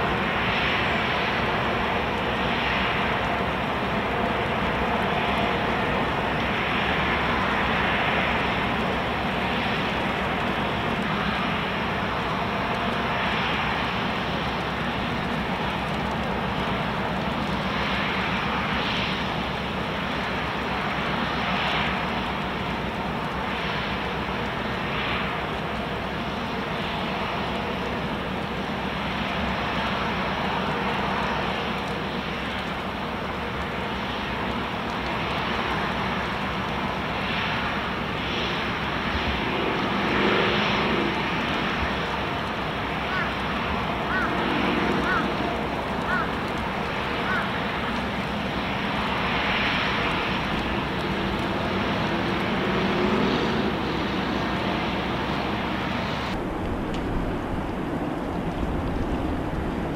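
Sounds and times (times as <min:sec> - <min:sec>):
outdoor background rumble: 0:00.0 - 0:59.9.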